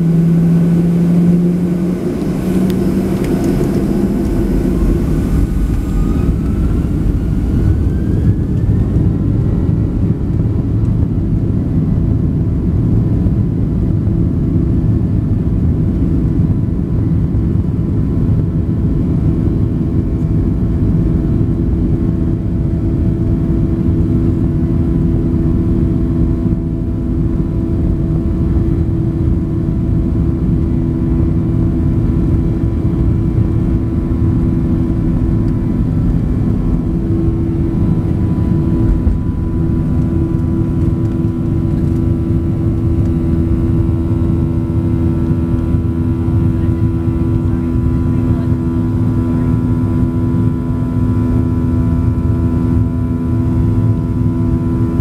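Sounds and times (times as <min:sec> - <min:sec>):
high steady whine: 0:00.0 - 0:55.0
jet engine drone: 0:00.0 - 0:55.0.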